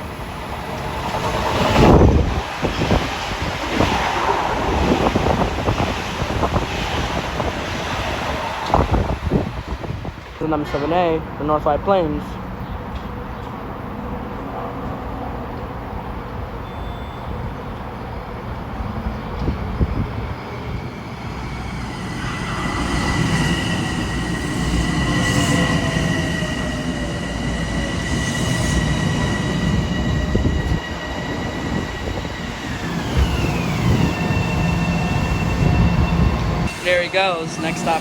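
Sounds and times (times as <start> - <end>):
electric train rumbling: 0.0 - 38.0
high-pitched train whines: 0.0 - 38.0.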